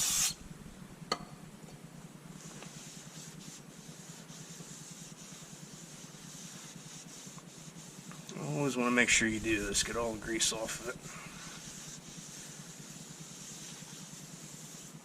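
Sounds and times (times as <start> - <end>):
rag wiping metal: 2.3 - 15.0.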